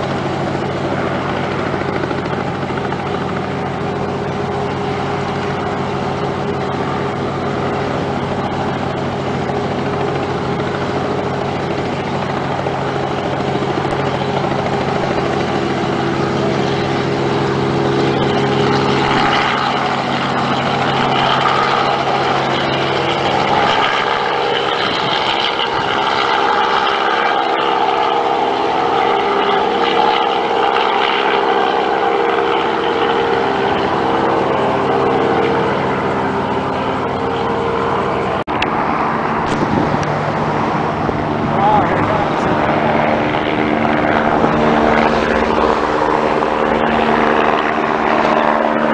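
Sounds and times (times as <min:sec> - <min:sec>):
helicopter engine and rotors: 0:00.0 - 0:48.9.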